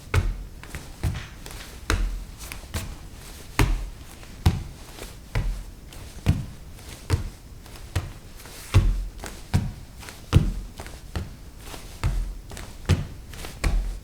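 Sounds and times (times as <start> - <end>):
bare footsteps on wooden floor: 0.0 - 14.0.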